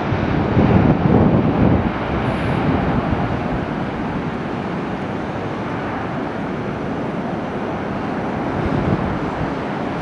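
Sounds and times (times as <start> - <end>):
jet airliner engine rumble: 0.0 - 10.0.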